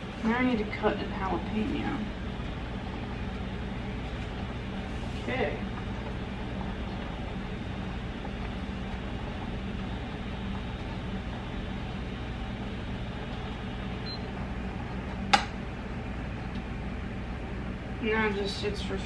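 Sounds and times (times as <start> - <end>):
fan-like hum with hiss: 0.0 - 19.0.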